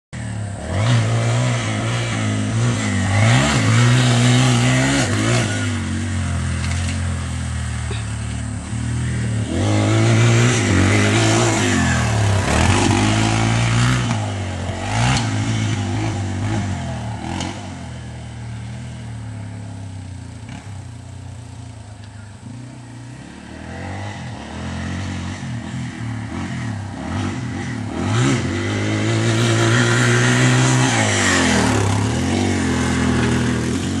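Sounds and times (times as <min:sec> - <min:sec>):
dirt bike engine revving: 0:00.2 - 0:34.0.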